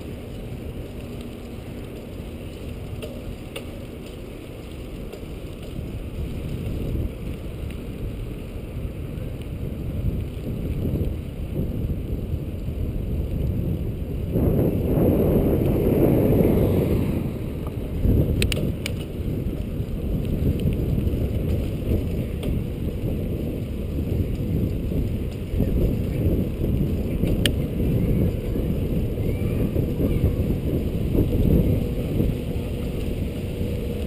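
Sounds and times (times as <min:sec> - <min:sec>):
bicycle rolling rumble: 0:00.0 - 0:34.0
wind buffeting microphone: 0:00.0 - 0:34.0.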